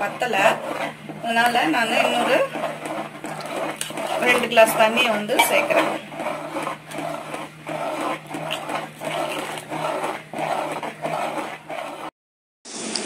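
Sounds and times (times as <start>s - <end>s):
ladle stirring thick batter: 0.0s - 12.1s
steady low hum: 0.0s - 12.1s.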